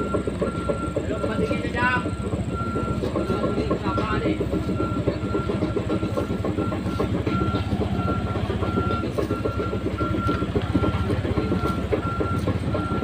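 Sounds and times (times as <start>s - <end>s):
excavator diesel engine running: 0.0s - 13.0s
warning alarm beeping: 0.0s - 13.0s.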